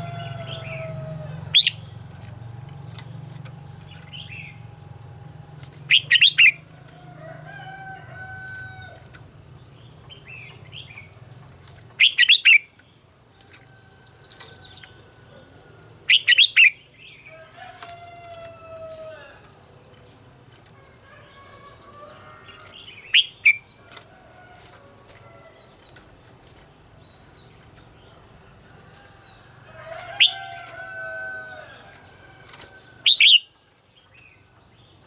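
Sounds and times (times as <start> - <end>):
bird song bursts: 0.0 - 4.9, 5.5 - 6.6, 7.6 - 35.0.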